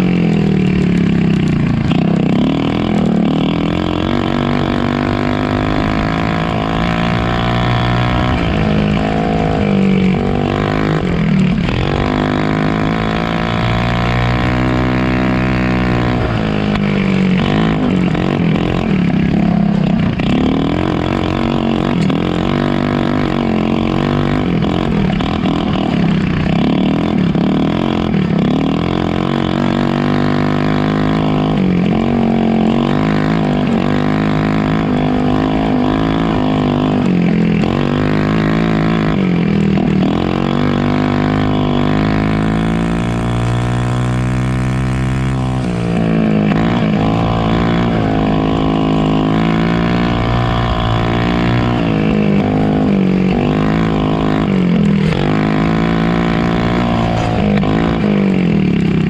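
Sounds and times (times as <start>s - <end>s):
small engine revving: 0.0s - 59.0s.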